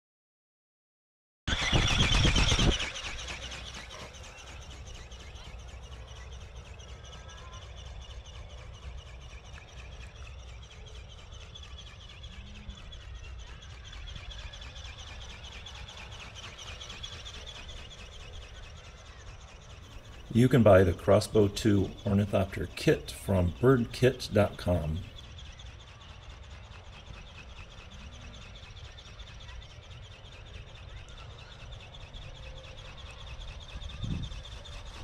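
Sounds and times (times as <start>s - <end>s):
birds chirping: 1.5s - 35.0s.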